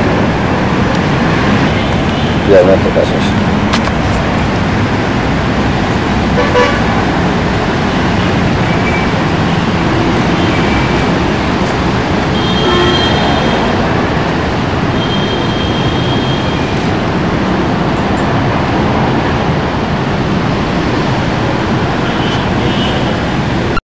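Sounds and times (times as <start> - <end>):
city traffic noise: 0.0 - 23.8.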